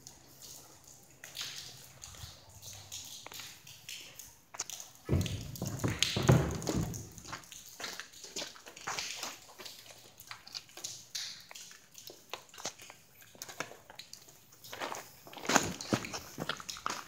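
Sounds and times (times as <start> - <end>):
footsteps on wet concrete: 0.5 - 17.0.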